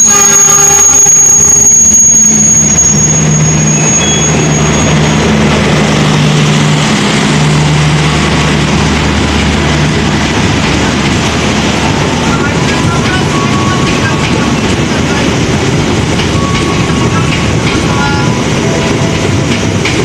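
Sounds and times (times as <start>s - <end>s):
diesel locomotive engine drone: 0.0s - 20.0s
rail and wheel noise: 0.0s - 20.0s.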